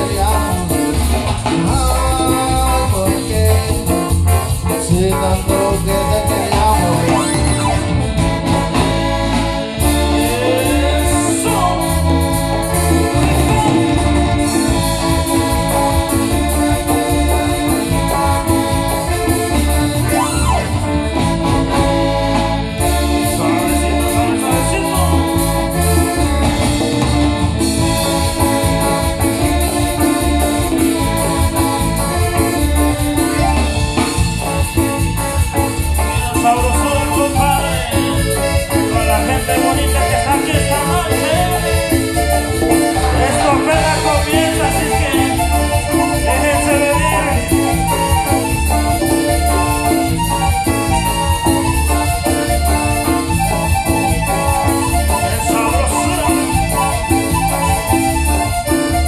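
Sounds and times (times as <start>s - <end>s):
dance band playing live: 0.0s - 59.0s
keyboard with accordion-like sound: 0.0s - 59.0s.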